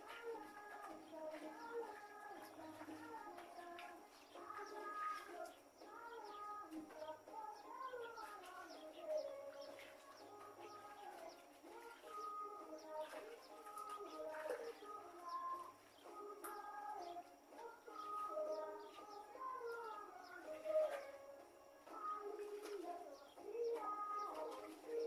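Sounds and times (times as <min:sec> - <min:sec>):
birds calling and chirping: 0:00.0 - 0:25.0.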